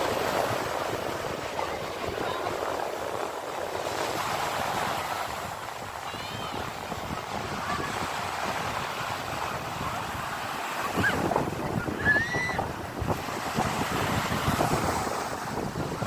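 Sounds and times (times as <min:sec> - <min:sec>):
sea waves breaking on shore: 0:00.0 - 0:16.0.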